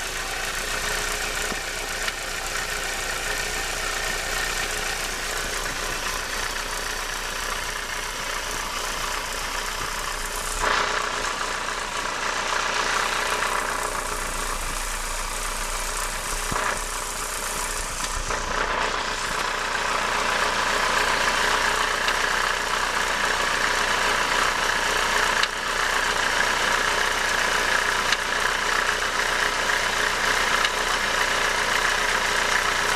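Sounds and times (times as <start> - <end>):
car engine idling: 0.0 - 32.9
strange engine noise: 0.0 - 32.9.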